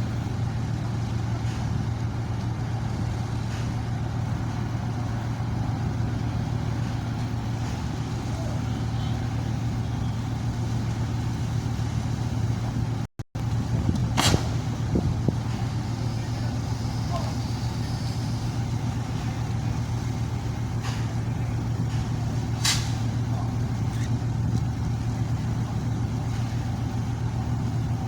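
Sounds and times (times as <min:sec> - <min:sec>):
ship diesel engine drone: 0:00.0 - 0:28.0.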